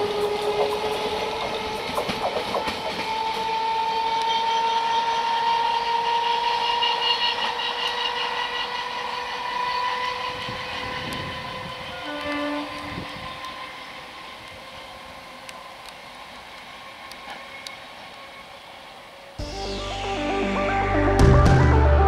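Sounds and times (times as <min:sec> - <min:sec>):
train wheels rumbling on rails: 0:00.0 - 0:19.4
electric train whine: 0:00.0 - 0:22.0.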